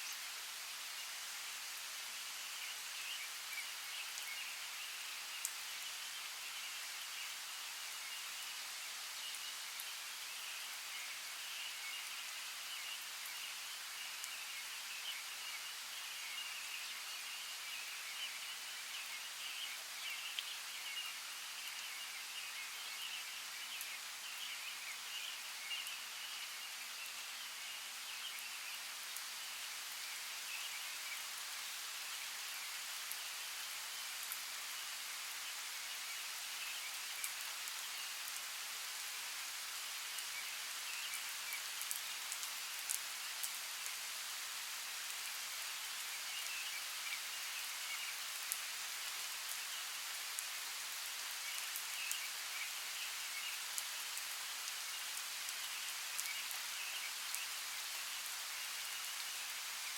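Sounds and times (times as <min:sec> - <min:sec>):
rain hissing: 0:00.0 - 0:59.9.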